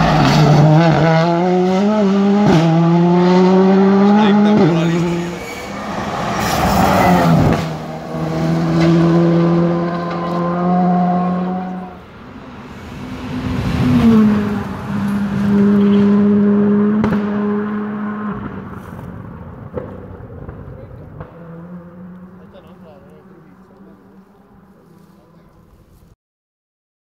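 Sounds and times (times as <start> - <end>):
rally car engines at high revs: 0.0 - 25.7
tyre and road noise: 0.0 - 26.2.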